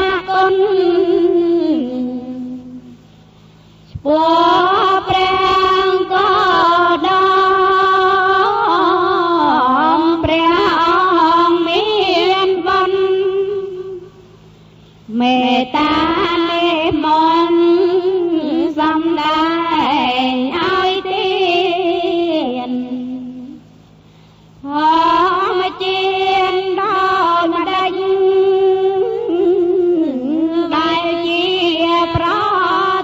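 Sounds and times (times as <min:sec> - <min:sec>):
high voice singing a chant: 0:00.0 - 0:03.0, 0:03.9 - 0:14.2, 0:15.1 - 0:23.6, 0:24.6 - 0:33.0.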